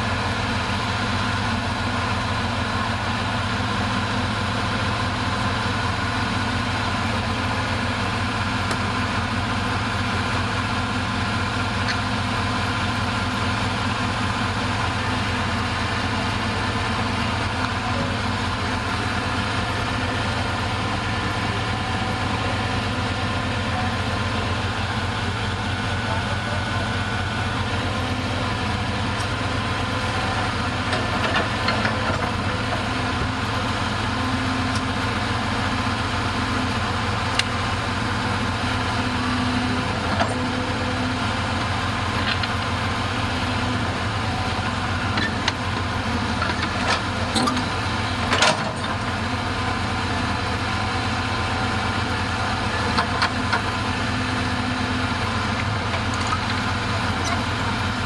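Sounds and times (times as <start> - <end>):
bulldozer diesel engine idling: 0.0 - 58.0.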